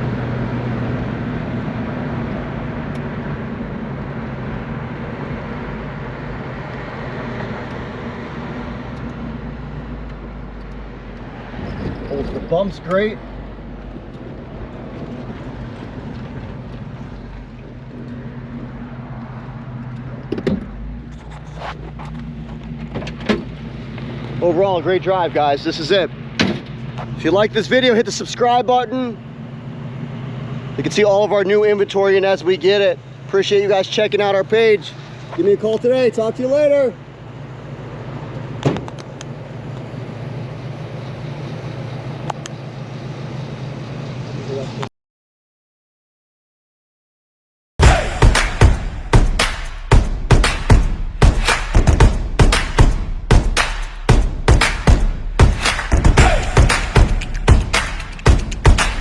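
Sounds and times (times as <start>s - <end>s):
car engine running: 0.0s - 44.8s, 47.8s - 59.0s
tyre and road noise: 0.0s - 44.9s, 47.8s - 59.0s.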